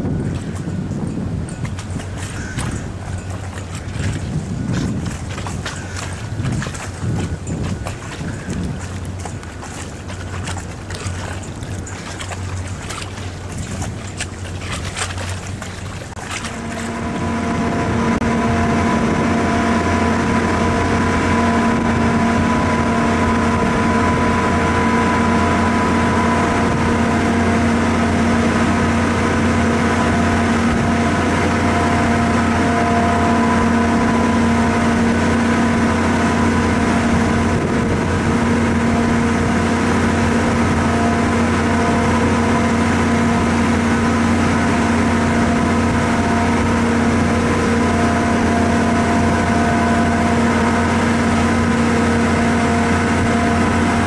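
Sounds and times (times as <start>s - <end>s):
ferry diesel engine drone: 0.0s - 54.0s
wind buffeting microphone: 0.0s - 54.0s.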